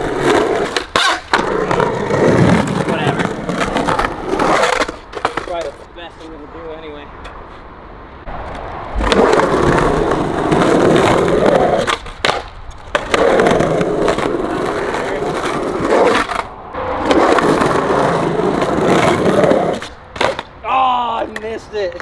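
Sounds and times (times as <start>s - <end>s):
skateboard clacks: 0.0s - 5.9s, 8.9s - 20.5s, 21.1s - 22.0s
skateboard wheels rolling on concrete: 0.0s - 22.0s.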